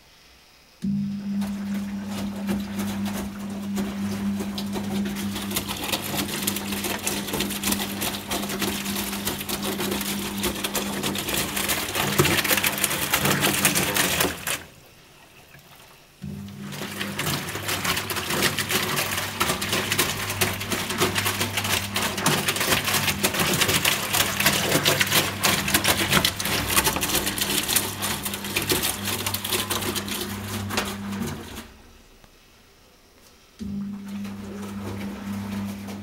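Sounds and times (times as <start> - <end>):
washing machine motor humming: 0.8 - 32.2, 33.6 - 36.0.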